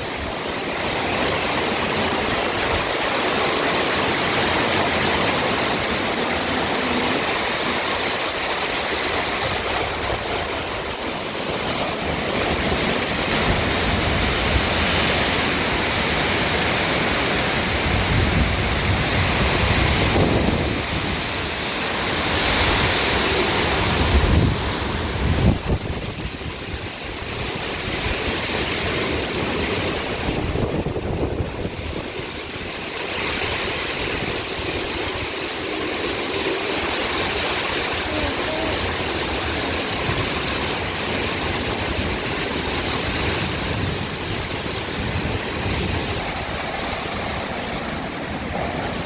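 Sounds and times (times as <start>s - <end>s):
heavy rain: 0.0s - 49.0s
storm wind: 0.0s - 49.0s.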